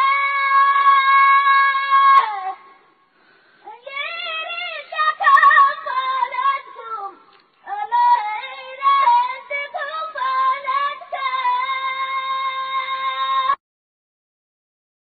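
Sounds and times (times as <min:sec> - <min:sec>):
high solo voice singing: 0:00.0 - 0:02.8, 0:03.7 - 0:13.6.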